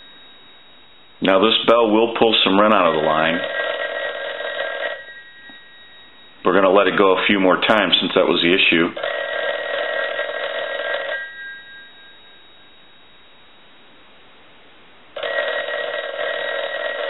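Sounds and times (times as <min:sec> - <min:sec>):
telephone bell ringing: 0:00.0 - 0:13.7, 0:15.2 - 0:17.0.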